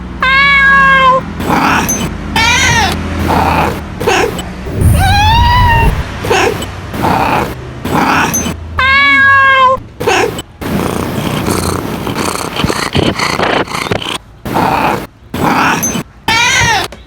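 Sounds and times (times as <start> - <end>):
cat meowing: 0.2 - 16.9.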